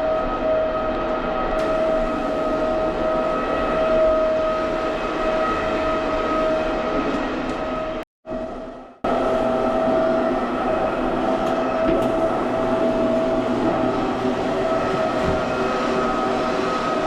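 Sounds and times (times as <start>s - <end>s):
carpet cleaner motor whining: 1.6s - 7.8s, 9.2s - 17.0s.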